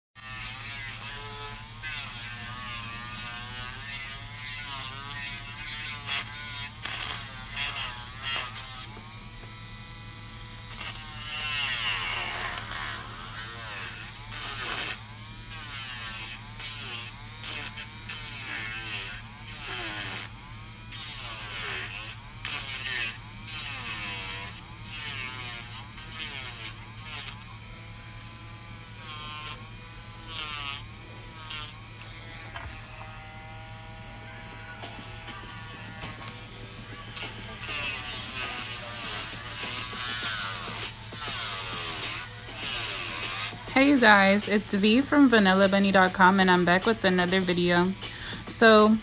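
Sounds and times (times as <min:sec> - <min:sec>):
electric nail drill whining: 0:00.2 - 0:49.0.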